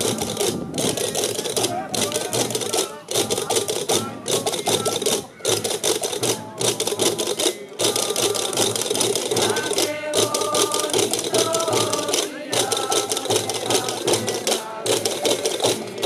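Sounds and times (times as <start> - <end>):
drums beating fast rhythm: 0.0 - 16.0.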